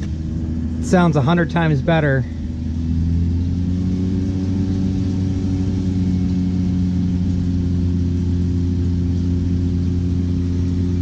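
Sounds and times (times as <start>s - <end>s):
water heater fan and burner hum: 0.0s - 11.0s.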